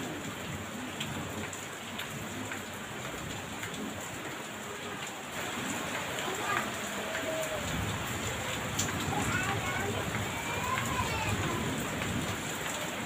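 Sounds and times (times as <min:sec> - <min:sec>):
heavy rain on a hard surface: 0:00.0 - 0:13.0.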